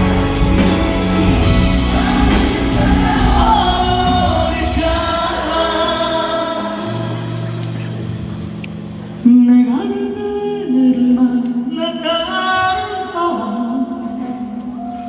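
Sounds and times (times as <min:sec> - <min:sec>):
live band music with singing: 0:00.0 - 0:15.0.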